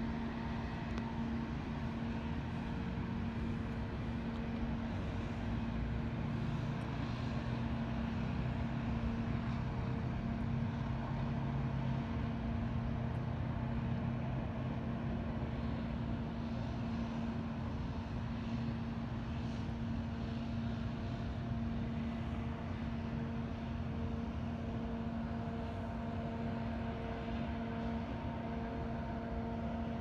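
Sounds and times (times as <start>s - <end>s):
distant diesel locomotives droning: 0.0s - 30.0s.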